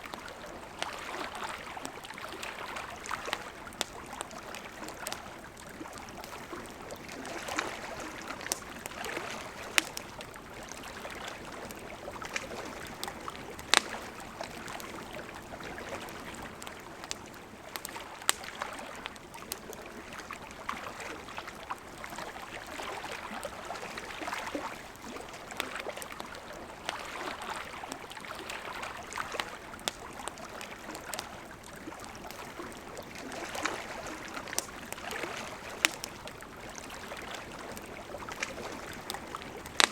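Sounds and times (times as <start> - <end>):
campfire crackling and popping: 0.0 - 39.9
river water running: 0.0 - 39.9.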